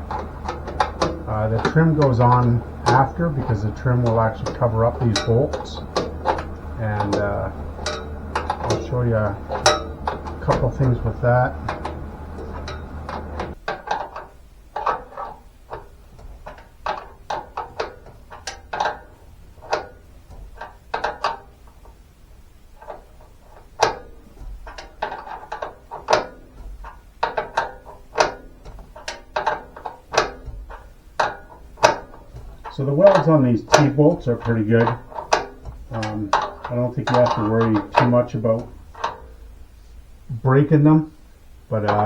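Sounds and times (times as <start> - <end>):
metallic clicks of hand tools: 0.0 - 22.0, 22.8 - 39.5.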